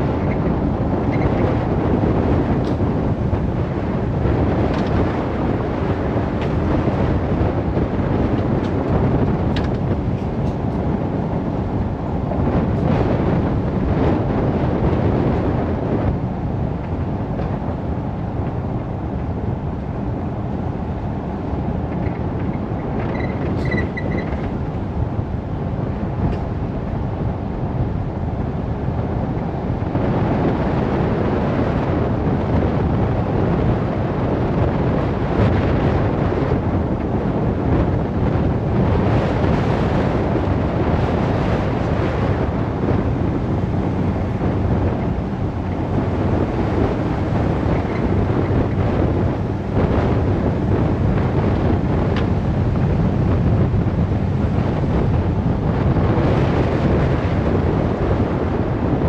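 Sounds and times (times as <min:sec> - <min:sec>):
vehicle driving on dirt road: 0:00.0 - 0:59.0.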